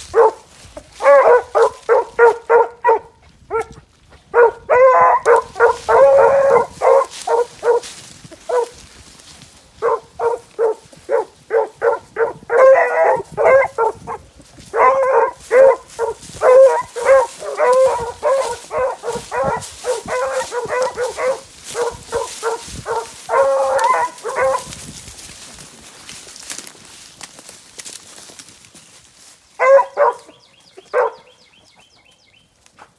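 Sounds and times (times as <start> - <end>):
hounds baying: 0.0 - 8.9, 9.7 - 24.8, 29.6 - 32.2.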